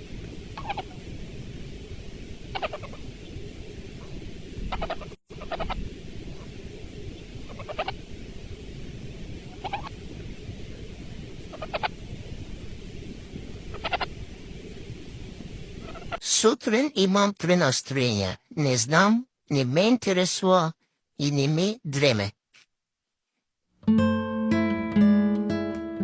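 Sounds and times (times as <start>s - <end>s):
low hiss: 0.0s - 22.3s.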